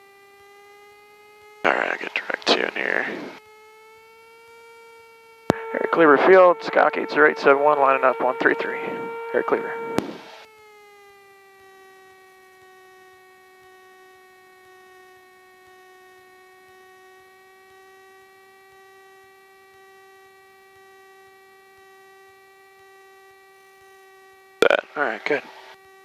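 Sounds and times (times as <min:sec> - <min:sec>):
buzzy electrical hum: 0:00.0 - 0:26.0.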